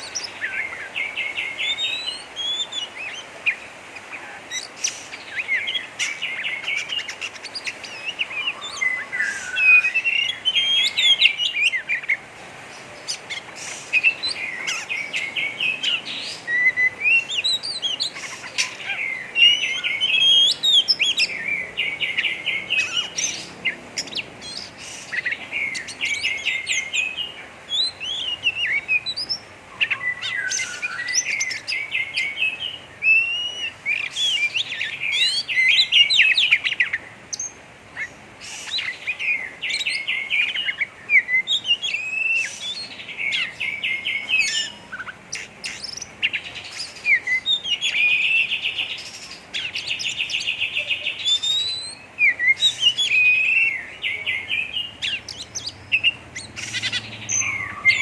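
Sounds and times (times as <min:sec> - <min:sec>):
bird singing chattering song: 0:00.0 - 0:58.0.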